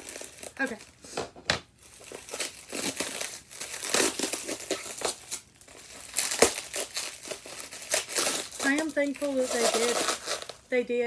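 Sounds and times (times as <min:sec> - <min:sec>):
packaging crinkling: 0:00.0 - 0:01.2, 0:01.8 - 0:10.7.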